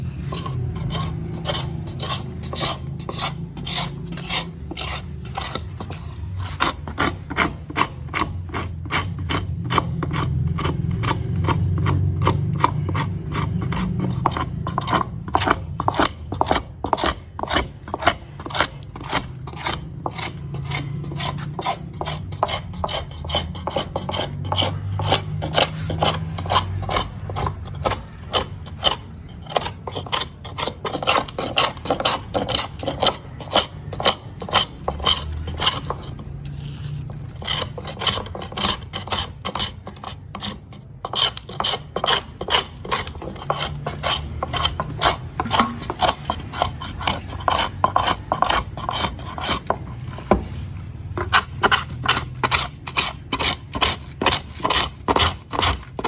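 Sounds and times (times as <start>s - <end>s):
hand file rasping on wood: 0.0s - 56.0s.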